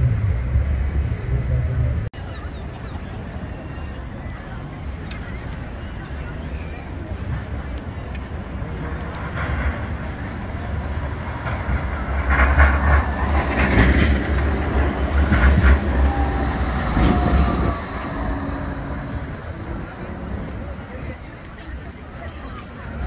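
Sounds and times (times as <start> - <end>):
tram wheels rumbling on rail: 0.0 - 2.1, 3.8 - 23.0.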